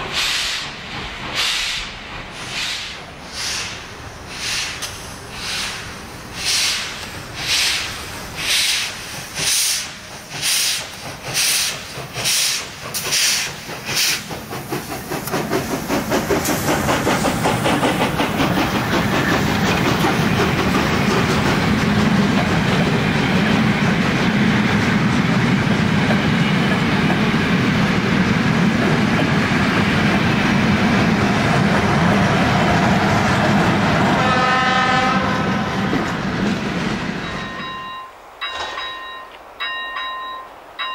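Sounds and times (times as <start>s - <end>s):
steam locomotive exhaust beats: 0.0s - 40.9s.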